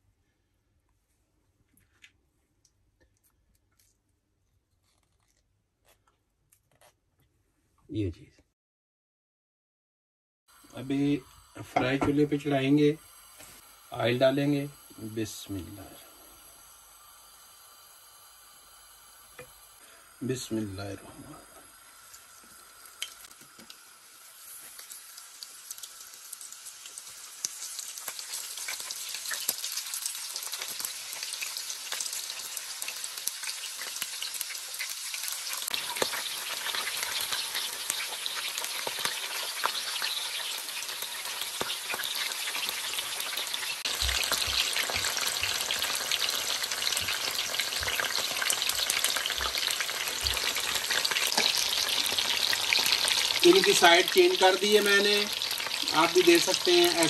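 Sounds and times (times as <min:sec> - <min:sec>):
oil sizzling in a frying pan: 0:10.5 - 0:57.0.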